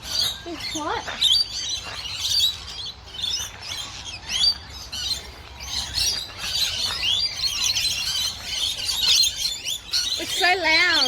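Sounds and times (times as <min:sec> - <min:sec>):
small birds chirping and squawking: 0:00.0 - 0:11.0.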